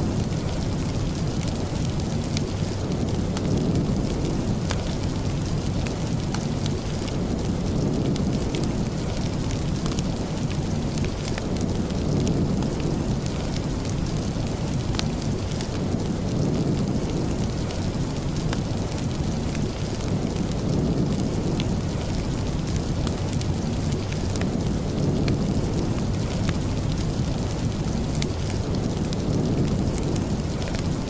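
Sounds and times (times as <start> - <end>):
steady rain rumble: 0.0 - 31.0
wood fire crackling: 0.0 - 31.0.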